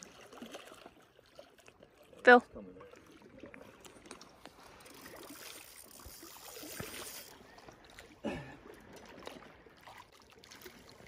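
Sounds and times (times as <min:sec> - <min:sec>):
lake water lapping at shore: 0:00.0 - 0:11.0.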